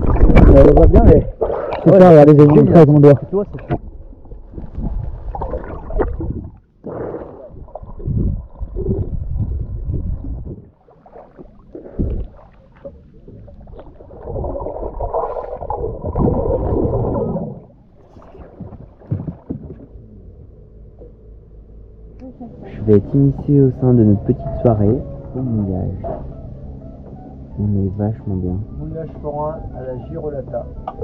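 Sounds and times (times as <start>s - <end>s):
sea water sloshing and gurgling: 0.0s - 20.6s, 22.8s - 27.5s.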